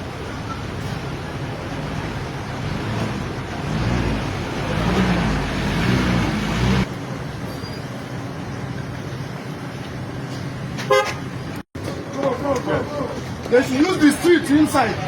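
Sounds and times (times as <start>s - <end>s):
road traffic rumble: 0.0s - 15.0s
street background noise: 0.0s - 15.0s.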